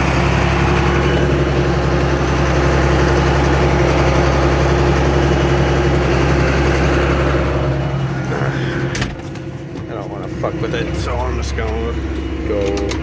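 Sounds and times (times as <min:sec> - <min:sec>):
tractor engine running steadily: 0:00.0 - 0:13.0.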